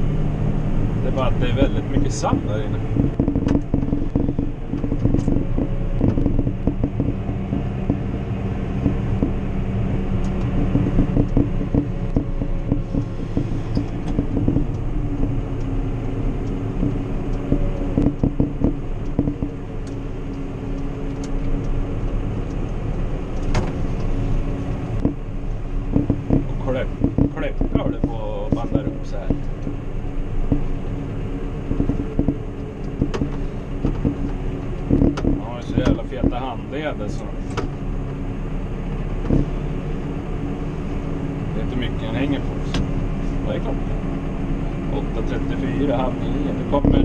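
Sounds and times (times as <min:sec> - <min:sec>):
tractor diesel engine running: 0:00.0 - 0:47.0
small knocks and rattles: 0:01.1 - 0:38.2, 0:38.8 - 0:39.9.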